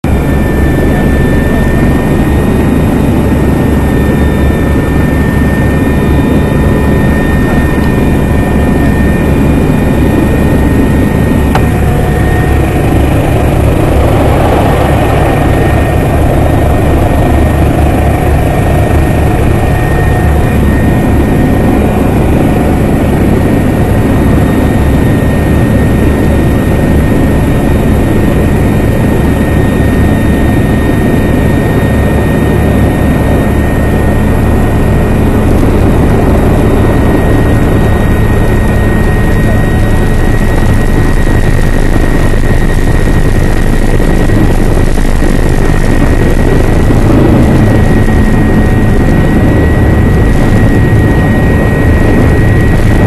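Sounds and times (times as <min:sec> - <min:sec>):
helicopter rotor beat: 0:00.0 - 0:53.0
high engine whine: 0:00.0 - 0:53.0.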